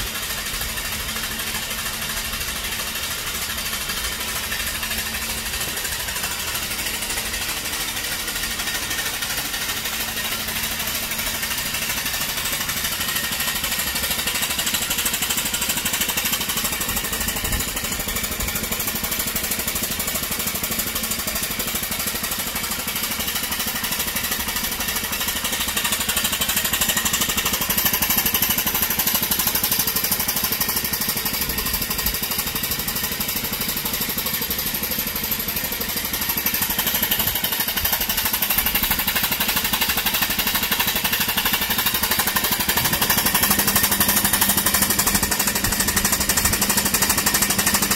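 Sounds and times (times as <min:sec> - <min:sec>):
model locomotive clattering: 0:00.0 - 0:47.9.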